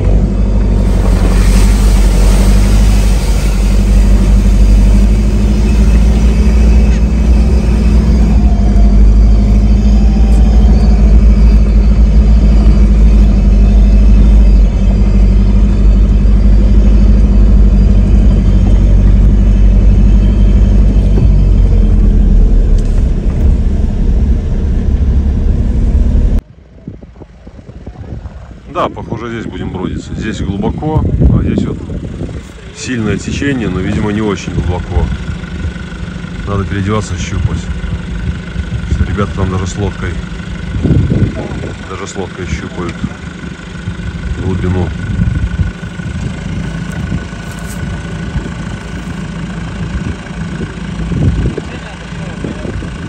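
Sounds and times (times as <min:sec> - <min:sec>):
off-road vehicle engine rumble: 0:00.0 - 0:53.0.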